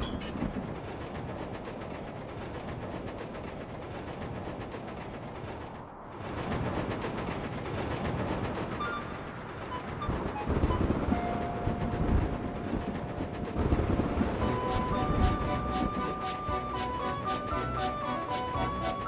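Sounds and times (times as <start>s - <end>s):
train clattering rattle: 0.0s - 19.0s.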